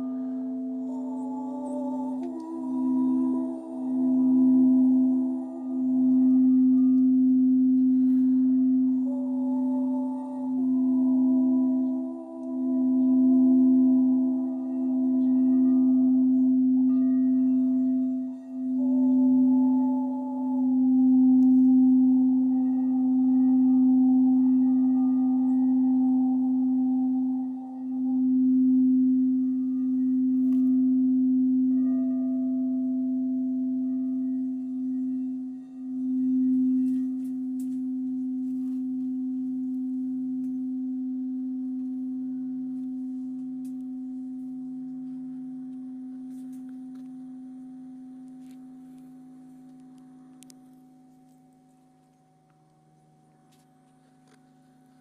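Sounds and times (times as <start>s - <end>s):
singing bowl ringing: 0.0s - 55.0s.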